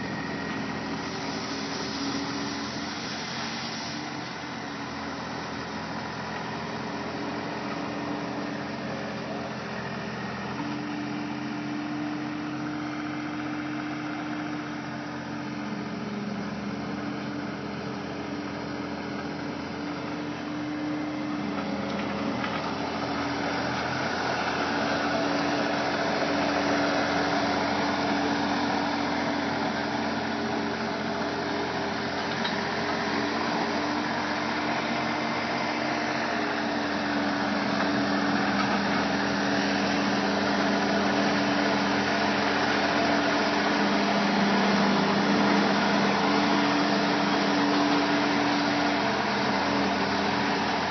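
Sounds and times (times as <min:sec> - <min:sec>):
diesel engine humming: 0:00.0 - 0:50.9.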